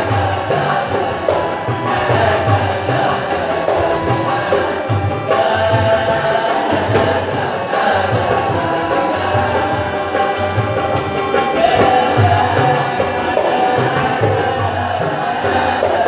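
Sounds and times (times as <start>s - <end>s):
boys singing together: 0.0s - 16.0s
tabla beats: 0.0s - 16.0s.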